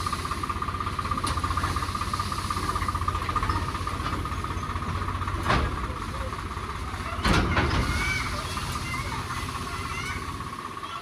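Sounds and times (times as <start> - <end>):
tractor engine rumbling: 0.0 - 11.0.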